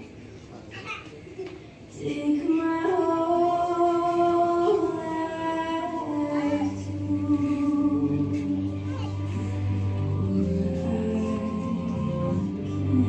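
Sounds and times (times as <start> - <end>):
slow song: 2.0 - 13.0.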